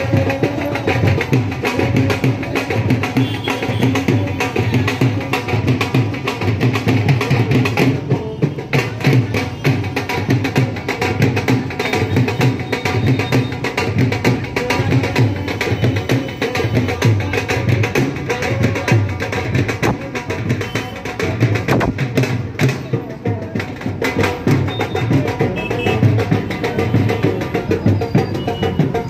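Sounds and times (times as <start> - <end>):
music with fast percussion beat: 0.0 - 29.0.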